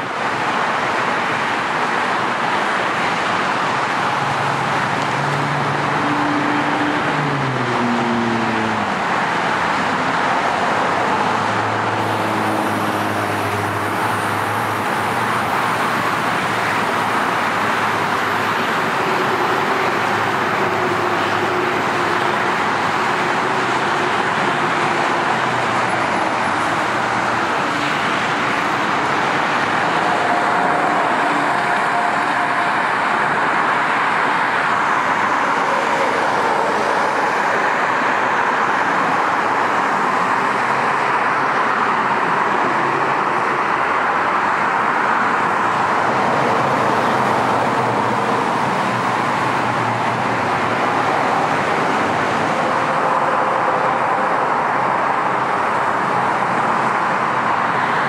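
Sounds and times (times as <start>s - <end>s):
heavy freeway traffic: 0.0s - 58.0s
passing vehicle engines: 0.0s - 58.0s.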